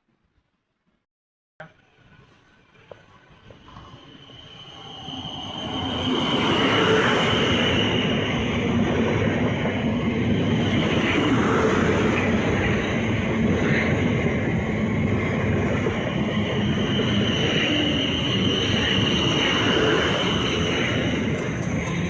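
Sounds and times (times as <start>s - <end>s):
high whine: 1.6s - 22.0s
train wheels rumbling on rails: 1.6s - 22.0s.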